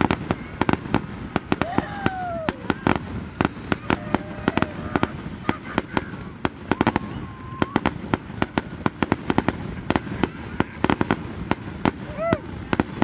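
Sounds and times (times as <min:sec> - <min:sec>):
fireworks crackling pops: 0:00.0 - 0:13.0.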